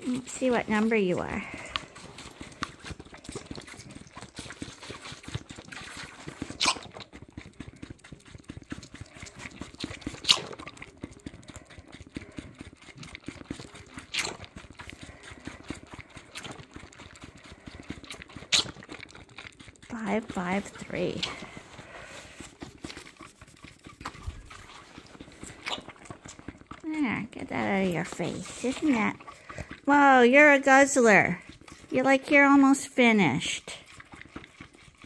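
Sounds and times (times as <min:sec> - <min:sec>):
lamb sucking from bottle: 0:00.0 - 0:35.0.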